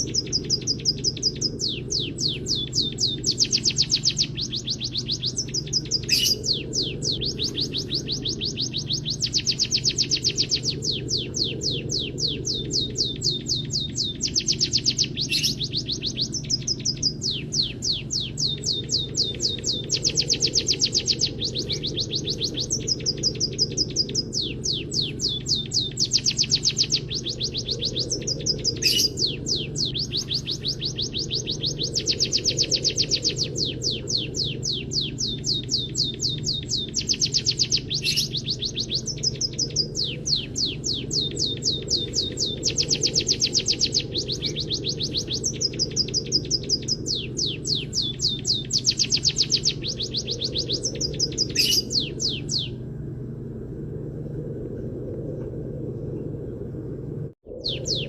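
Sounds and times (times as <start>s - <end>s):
bird singing fast trills: 0.0s - 52.8s, 57.5s - 58.0s
steady low hum: 0.0s - 58.0s.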